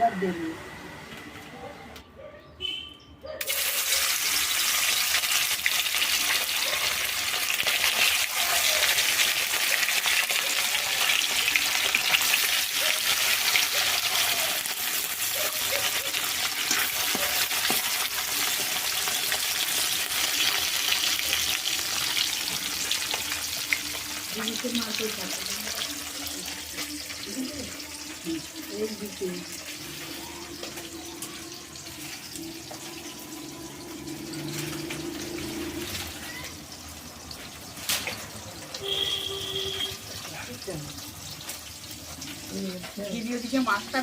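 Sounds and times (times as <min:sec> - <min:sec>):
fish sizzling in hot oil: 0:03.4 - 0:44.0.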